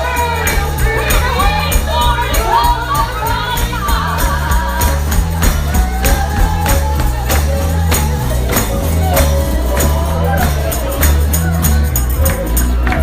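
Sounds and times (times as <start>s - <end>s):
bass line: 0.0s - 13.0s
tambourine beat: 0.0s - 13.0s
voices singing gospel: 0.0s - 13.0s.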